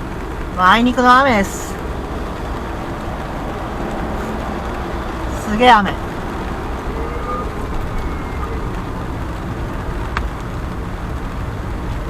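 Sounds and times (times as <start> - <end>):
car driving through heavy rain: 0.0 - 12.0.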